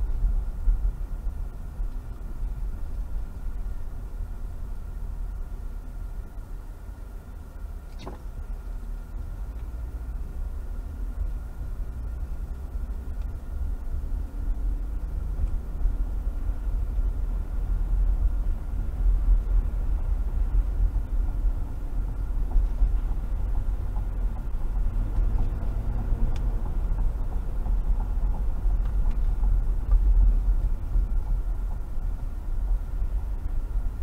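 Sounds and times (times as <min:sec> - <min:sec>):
car driving on wet road: 0:00.0 - 0:34.0.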